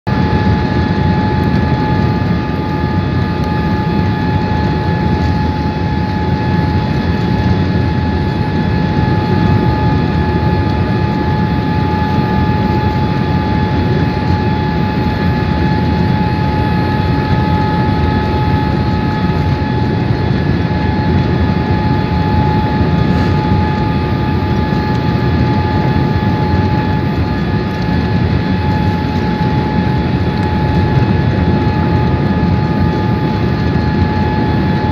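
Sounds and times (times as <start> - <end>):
jet engine whine: 0.0 - 34.9
aircraft cabin rumble: 0.2 - 34.9.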